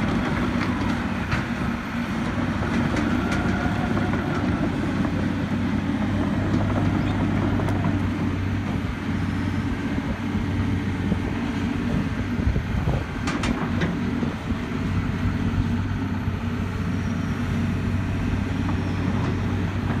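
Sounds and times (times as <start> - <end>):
excavator diesel engine humming: 0.0 - 20.0.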